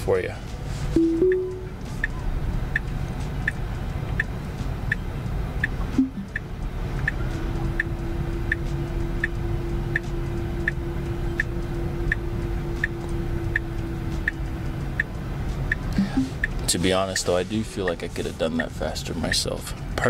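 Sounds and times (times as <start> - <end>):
steady hum: 0.6 - 20.0
car ticking: 1.0 - 20.0.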